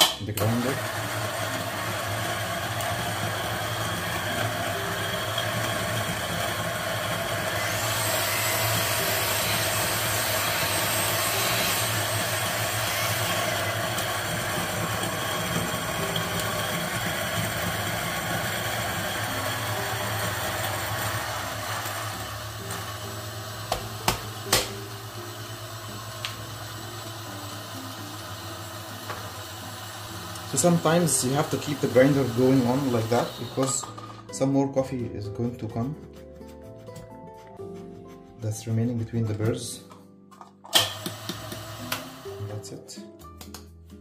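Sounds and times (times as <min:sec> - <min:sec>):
coffee grinder grinding beans: 0:00.0 - 0:34.5, 0:39.6 - 0:42.8.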